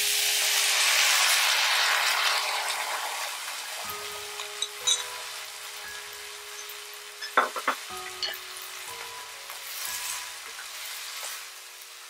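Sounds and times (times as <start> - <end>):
meat and vegetables sizzling in a pan: 0.0 - 12.0.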